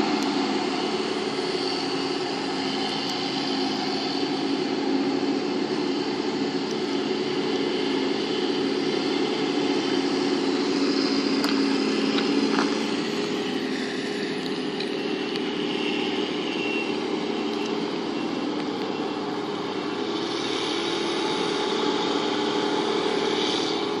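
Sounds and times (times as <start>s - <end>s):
distant farm machinery: 0.0s - 24.0s
tractor running: 0.0s - 24.0s.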